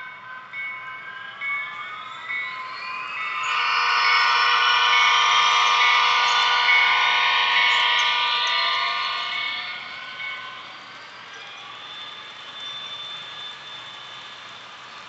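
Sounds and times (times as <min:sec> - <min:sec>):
model train whining: 0:00.0 - 0:15.0.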